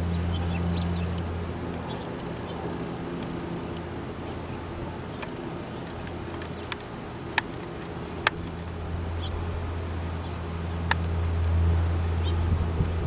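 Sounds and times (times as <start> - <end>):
airplane drone overhead: 0.0 - 13.0.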